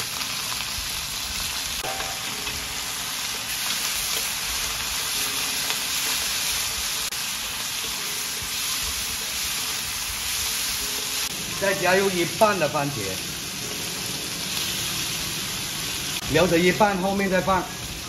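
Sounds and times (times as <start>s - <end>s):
chilies sizzling in hot oil: 0.0s - 18.0s.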